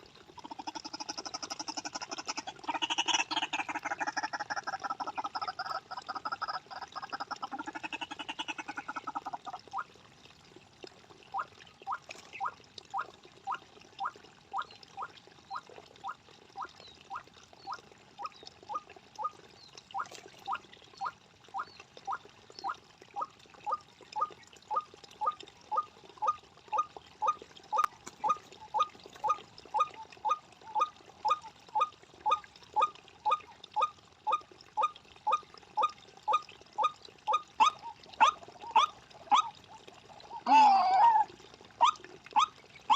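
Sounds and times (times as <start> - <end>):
bird repeated croaking call: 0.4 - 9.8, 11.3 - 39.6.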